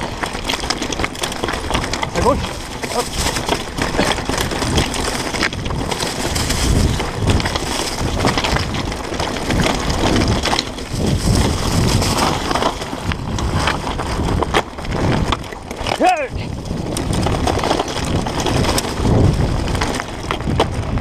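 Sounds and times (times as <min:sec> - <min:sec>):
bike clattering over rocks: 0:00.0 - 0:21.0
tyres crunching over stones: 0:00.0 - 0:21.0
wind rumble on microphone: 0:00.0 - 0:21.0.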